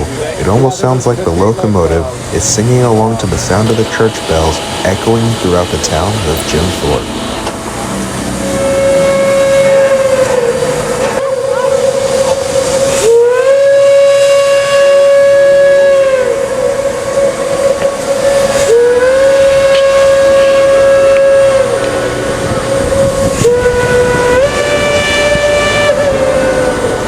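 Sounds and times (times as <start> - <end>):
steam hissing: 0.0 - 27.0
steam locomotive whistle blasts: 2.5 - 27.0.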